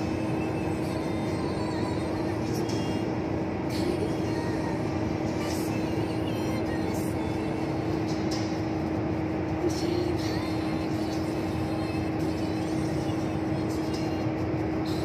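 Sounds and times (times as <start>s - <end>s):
constant hum: 0.0s - 15.0s
vehicle driving on highway: 0.0s - 15.0s.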